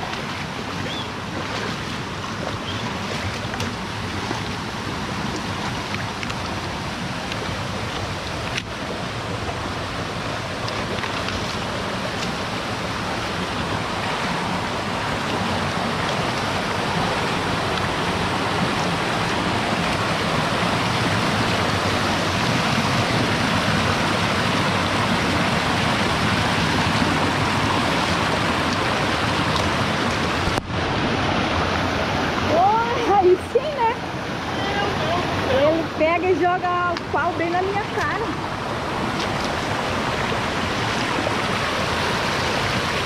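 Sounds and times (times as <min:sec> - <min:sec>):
waterfall and stream rushing: 0:00.0 - 0:43.0.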